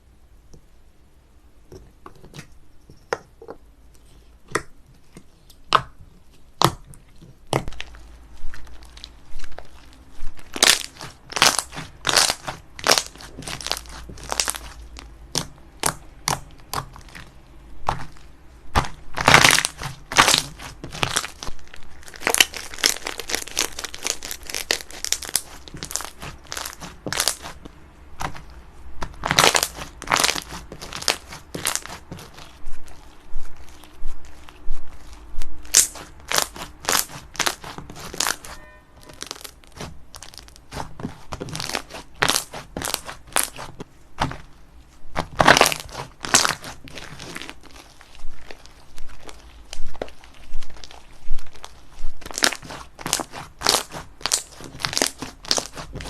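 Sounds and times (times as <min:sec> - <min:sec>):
slime crackling when squeezed: 0:07.5 - 0:44.5, 0:45.1 - 0:56.0.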